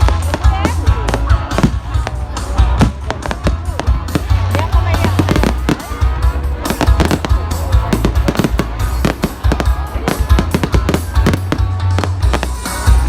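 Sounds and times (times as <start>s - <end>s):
fireworks bangs and crackles: 0.0s - 13.0s
music with heavy bass: 0.0s - 13.0s.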